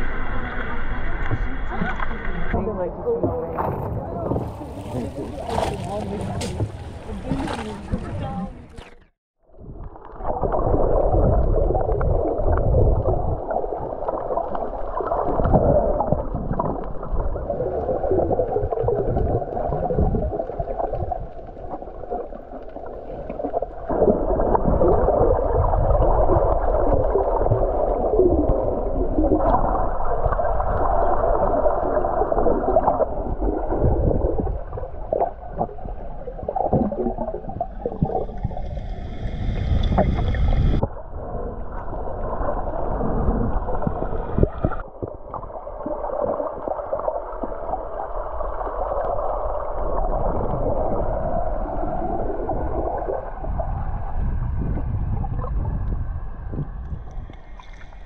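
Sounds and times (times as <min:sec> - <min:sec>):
muffled underwater water churning: 0:00.0 - 0:58.0.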